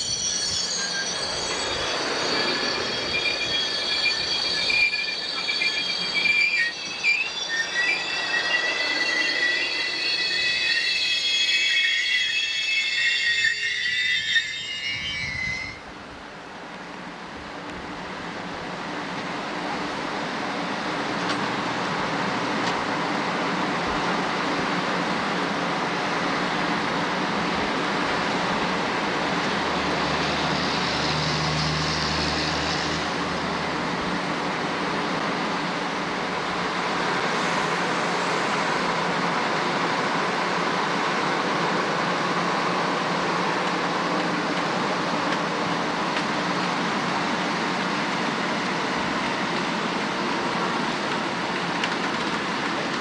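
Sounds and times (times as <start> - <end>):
train passing with wheel rumble: 0.0 - 53.0.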